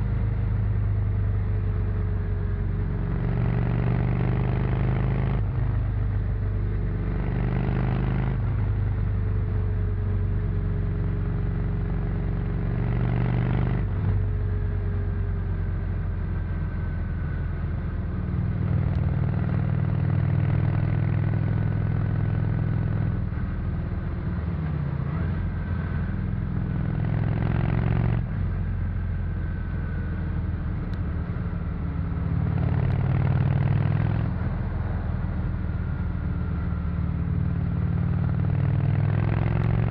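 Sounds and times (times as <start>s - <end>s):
motorcycle engine revving: 0.8s - 16.9s, 18.2s - 30.1s, 30.7s - 39.9s.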